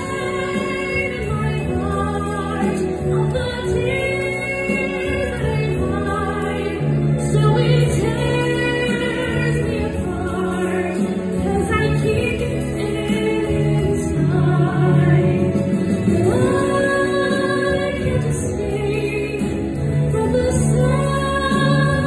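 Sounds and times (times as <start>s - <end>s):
woman singing a slow ballad: 0.0s - 22.0s.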